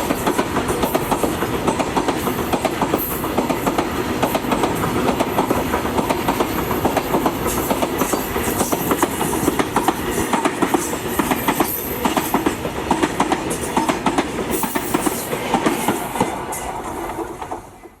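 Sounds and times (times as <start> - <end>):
train rumble: 0.0 - 18.0
train wheels clacking on rail joints: 0.0 - 18.0.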